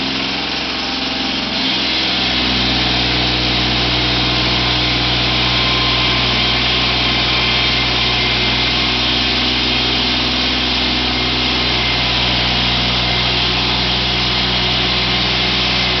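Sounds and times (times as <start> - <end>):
engine drone: 0.0 - 16.0.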